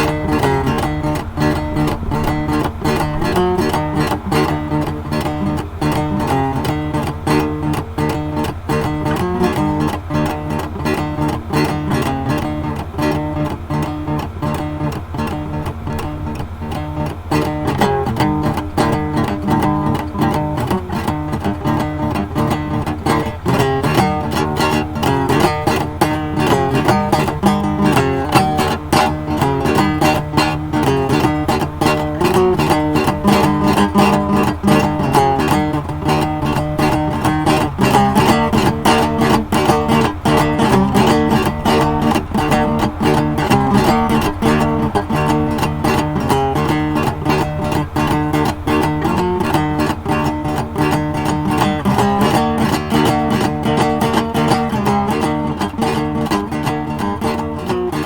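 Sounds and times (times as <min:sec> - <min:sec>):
guitar strummed and plucked: 0:00.0 - 0:58.0.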